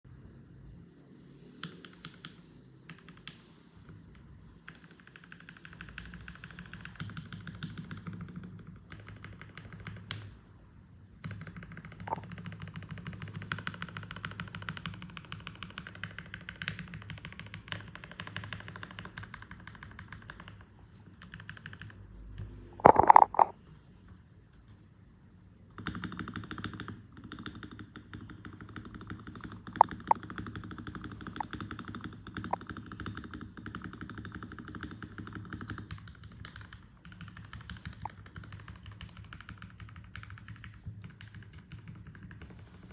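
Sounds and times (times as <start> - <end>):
mechanical keyboard typing: 1.3 - 10.5, 11.1 - 23.8, 25.7 - 42.9.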